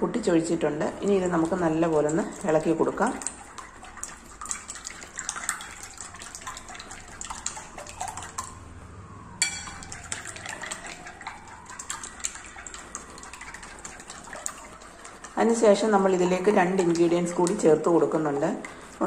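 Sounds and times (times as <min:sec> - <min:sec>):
eggs being beaten in a bowl: 0:00.2 - 0:08.6, 0:09.4 - 0:19.0.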